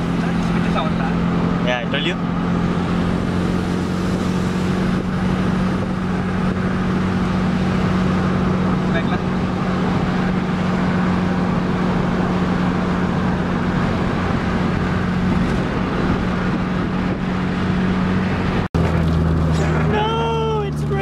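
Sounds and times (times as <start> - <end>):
car engine cruising: 0.0 - 21.0
road noise rushing: 0.0 - 21.0.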